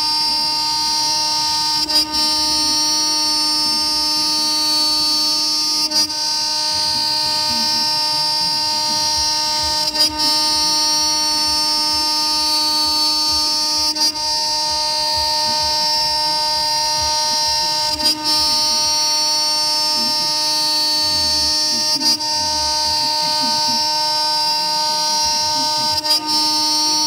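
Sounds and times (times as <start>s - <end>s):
end mill cutting aluminium: 0.0s - 27.0s
router spindle whining: 0.0s - 27.0s.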